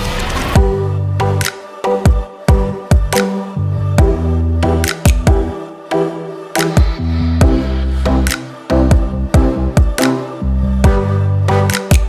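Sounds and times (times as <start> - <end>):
electronic music with beat: 0.5 - 12.0.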